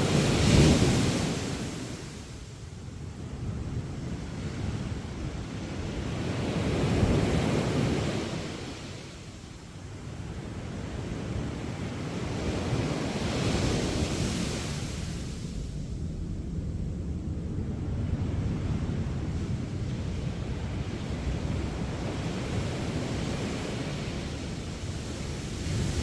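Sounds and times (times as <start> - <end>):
sea waves breaking on a beach: 0.0 - 16.4, 17.9 - 26.0.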